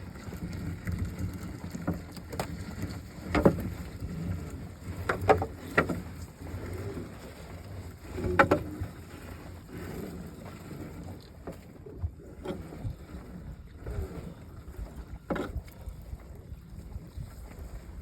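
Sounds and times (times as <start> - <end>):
knocks and thumps on boat: 0.0 - 18.0.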